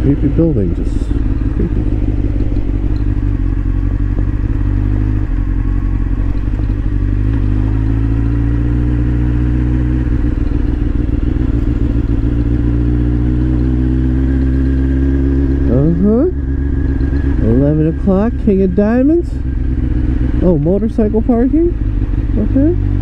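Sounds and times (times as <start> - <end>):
motorcycle engine at low revs: 0.0 - 23.0.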